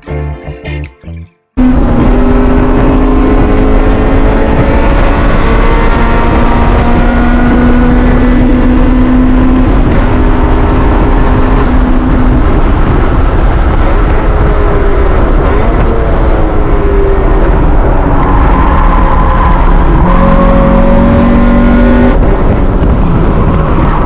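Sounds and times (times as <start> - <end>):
car engine at high revs: 1.6 - 24.0
road rush: 1.6 - 24.0
wind rushing: 1.6 - 24.0.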